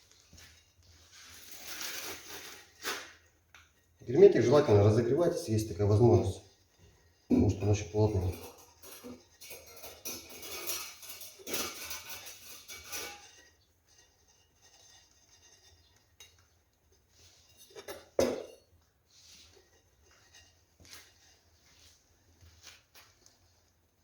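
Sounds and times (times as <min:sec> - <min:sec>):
metal clinking and scraping: 0:00.0 - 0:23.7.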